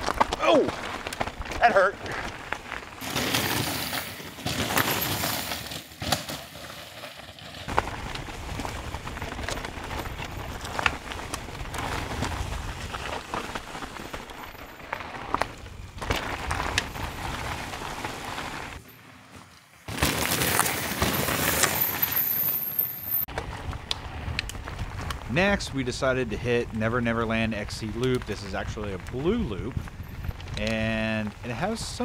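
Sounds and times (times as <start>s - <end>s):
bike clicks and rattles: 0.0s - 25.3s, 27.2s - 31.2s
bike tyres on dirt: 0.0s - 32.0s.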